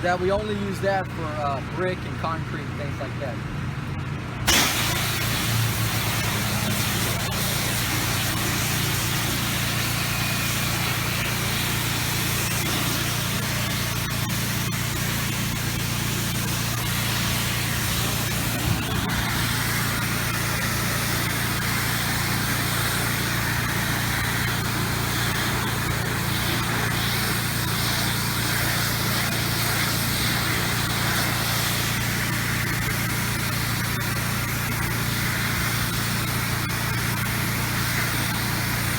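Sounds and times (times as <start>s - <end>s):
pressure washer engine running: 0.0s - 38.9s
water spray hissing on siding: 4.5s - 38.9s.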